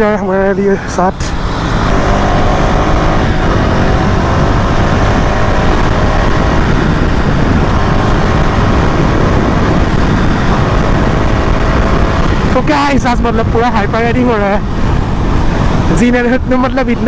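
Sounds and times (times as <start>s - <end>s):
wind rush on microphone: 0.0s - 17.0s
motorcycle engine running: 1.0s - 17.0s.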